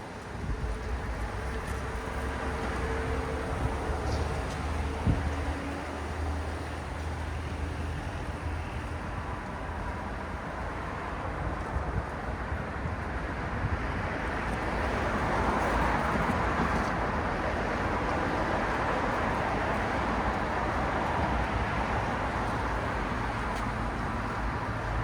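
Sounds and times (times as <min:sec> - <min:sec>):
car engines and tyres on road: 0:00.0 - 0:25.0.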